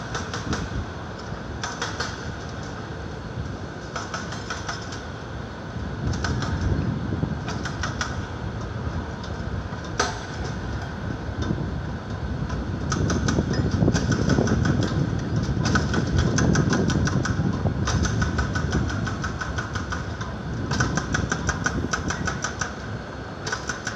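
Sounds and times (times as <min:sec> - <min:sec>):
rapid clicking or rattling: 0:00.0 - 0:02.8, 0:03.9 - 0:05.1, 0:06.0 - 0:06.8, 0:07.5 - 0:11.6, 0:12.4 - 0:23.9
rumble of traffic: 0:00.0 - 0:23.9.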